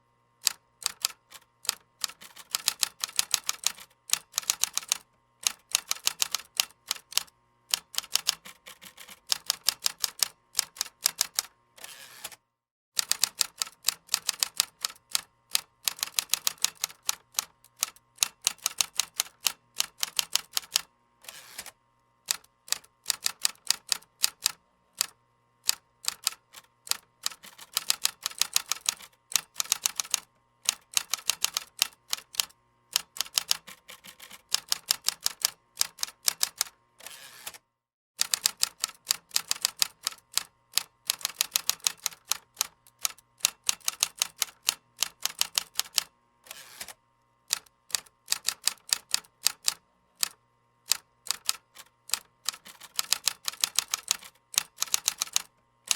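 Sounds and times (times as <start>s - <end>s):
computer keyboard typing: 0.4s - 11.5s, 13.0s - 20.8s, 22.3s - 36.7s, 38.2s - 46.1s, 46.8s - 55.9s.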